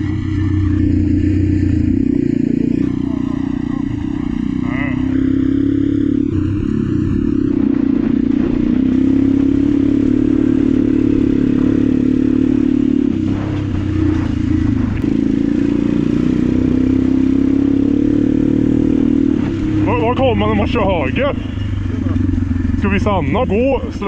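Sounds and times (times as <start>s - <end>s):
go-kart engine at high revs: 0.0s - 24.0s.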